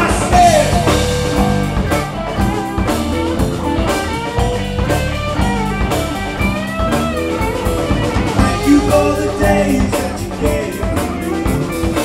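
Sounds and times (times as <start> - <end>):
guitar bending notes: 0.0 - 12.0
rock band playing live: 0.0 - 12.0.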